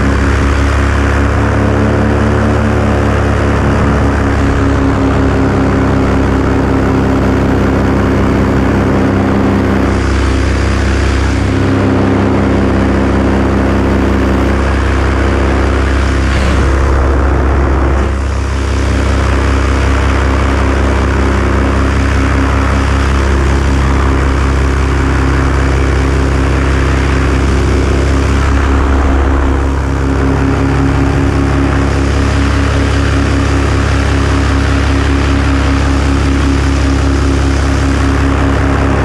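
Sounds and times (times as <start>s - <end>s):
aircraft engine and propeller drone: 0.0s - 39.0s
wind noise: 0.0s - 39.0s.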